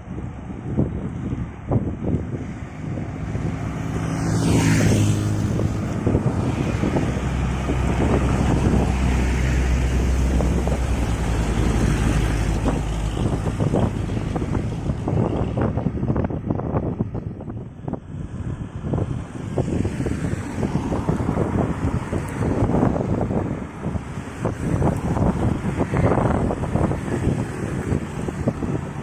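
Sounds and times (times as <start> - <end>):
heavy trucks passing on highway: 0.0 - 29.0
wind on microphone: 0.0 - 29.0.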